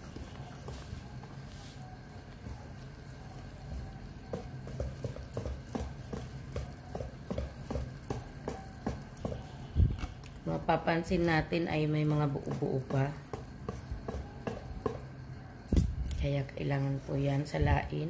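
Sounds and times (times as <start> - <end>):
whisk beating batter: 0.0 - 10.2, 11.1 - 15.4.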